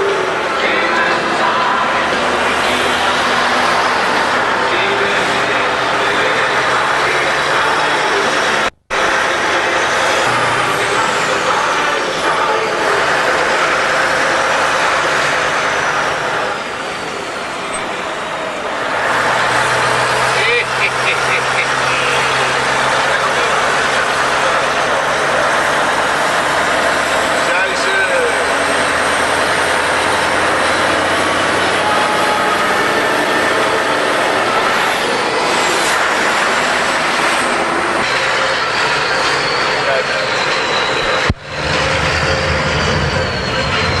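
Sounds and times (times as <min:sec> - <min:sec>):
heavy rushing noise: 0:00.0 - 0:44.0
truck engine running: 0:00.0 - 0:44.0.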